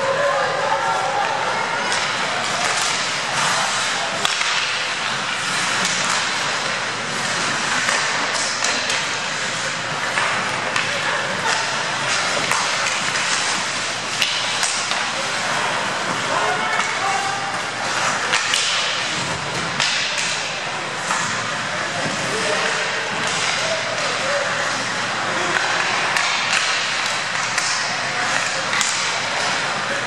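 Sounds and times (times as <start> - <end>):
skates scraping ice: 0.0 - 30.0
hockey sticks and puck clacking: 0.9 - 30.0.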